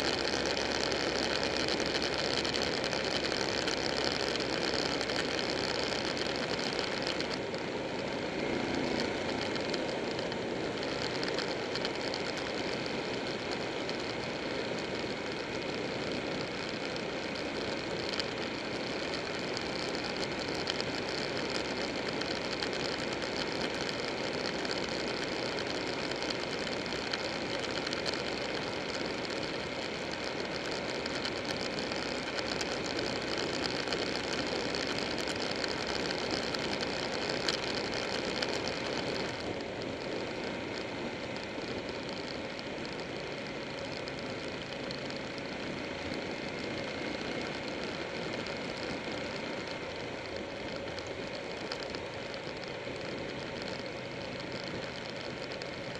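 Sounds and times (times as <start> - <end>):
motorcycle engine running: 0.0 - 55.9
road noise: 0.0 - 55.9.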